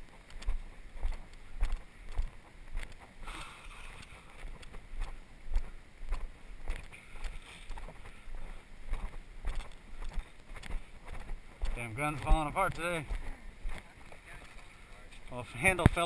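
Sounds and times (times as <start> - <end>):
footsteps on forest trail: 0.0 - 16.0.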